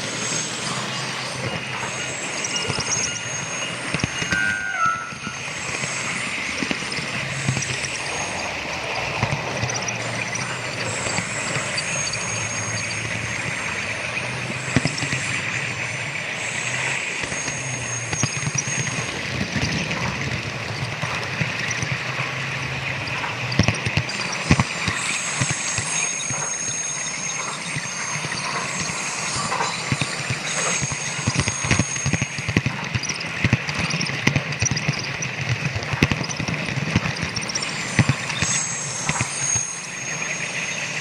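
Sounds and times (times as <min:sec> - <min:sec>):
steady hum and hiss: 0:00.0 - 0:41.0
model train wheels clicking: 0:05.3 - 0:41.0.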